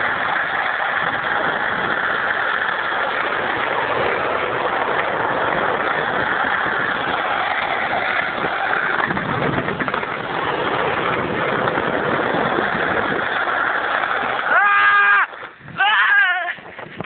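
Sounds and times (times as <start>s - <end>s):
continuous rushing noise: 0.0s - 17.0s
motor scooter engine running: 0.0s - 17.0s.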